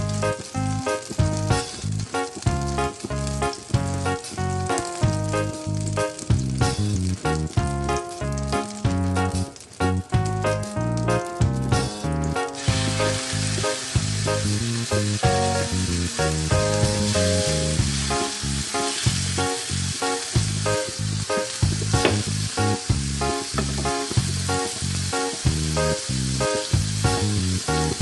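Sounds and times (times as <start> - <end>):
background music with beat: 0.0 - 28.0
steaks sizzling on grill pan: 0.0 - 28.0.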